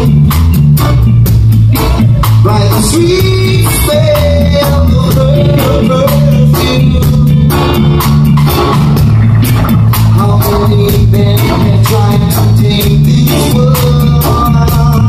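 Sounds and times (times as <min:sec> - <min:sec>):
live reggae band playing: 0:00.0 - 0:15.0.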